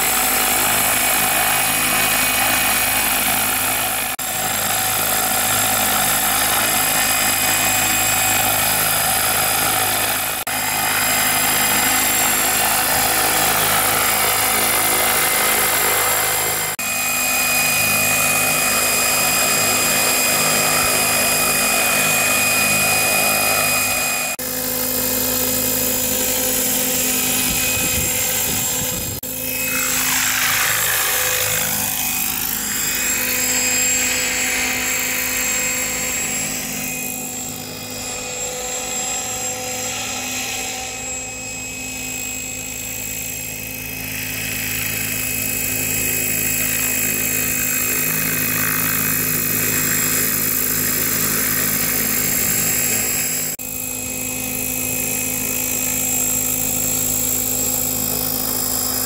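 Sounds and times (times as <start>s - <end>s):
model helicopter rotor noise: 0.0s - 59.0s.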